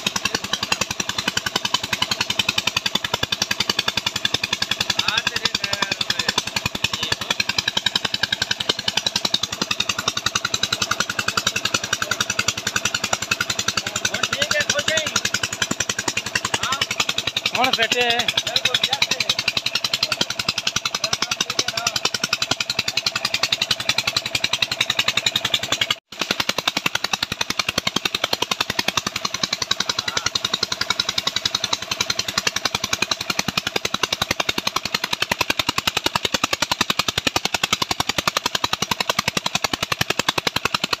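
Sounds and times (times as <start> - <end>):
pump engine exhaust beat: 0.0 - 41.0.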